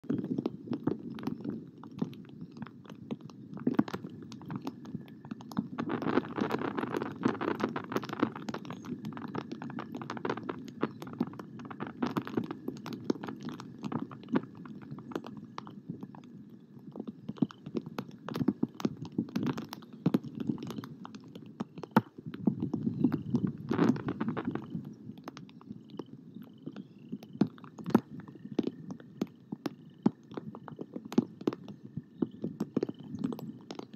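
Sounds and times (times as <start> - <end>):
raindrops tapping: 0.0 - 33.9.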